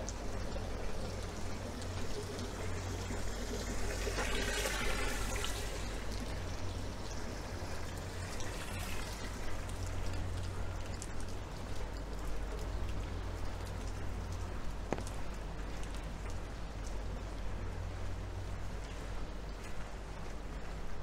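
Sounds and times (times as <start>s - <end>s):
rain on street: 0.0s - 21.0s
rainwater trickling: 0.0s - 21.0s.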